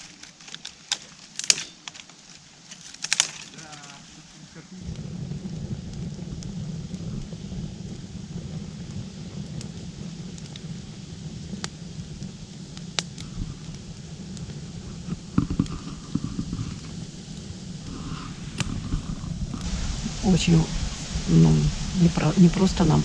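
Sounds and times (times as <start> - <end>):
wind rumbling on microphone: 4.0 - 23.0.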